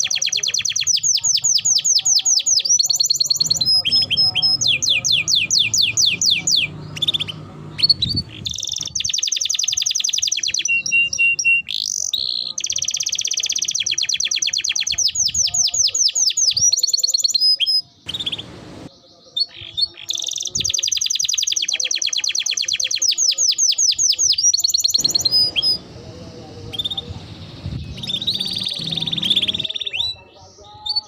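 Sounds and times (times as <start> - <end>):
canary chirps: 0.0 - 31.0
canary singing rapid trills: 0.0 - 31.0.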